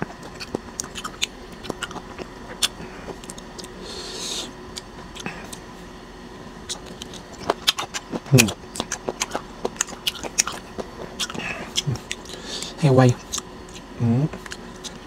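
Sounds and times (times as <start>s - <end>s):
faint chewing: 0.0s - 5.7s, 6.6s - 15.0s.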